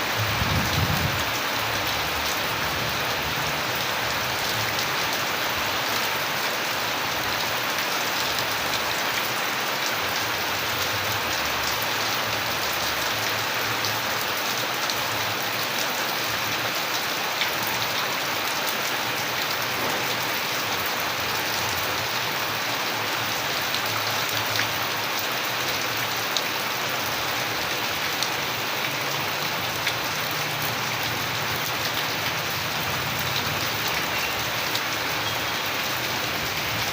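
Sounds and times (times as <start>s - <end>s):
steady rain hiss: 0.0s - 36.9s.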